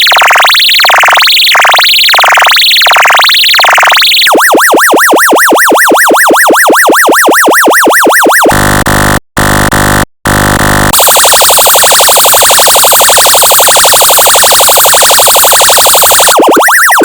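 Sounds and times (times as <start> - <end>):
electronic siren yelp: 0.0 - 17.0
high-pitched pulsing alarm tone: 0.0 - 17.0.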